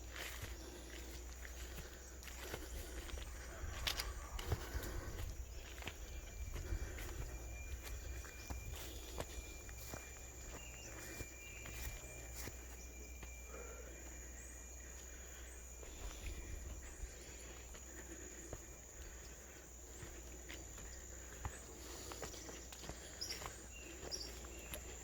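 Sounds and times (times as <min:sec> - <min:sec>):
footsteps on a path: 0:00.0 - 0:25.0
high-pitched insect drone: 0:00.0 - 0:25.0.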